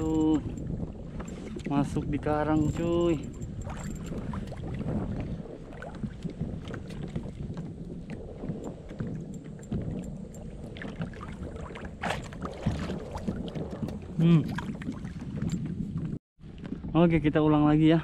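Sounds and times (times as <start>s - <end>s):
water lapping against kayak hull: 0.0s - 16.9s.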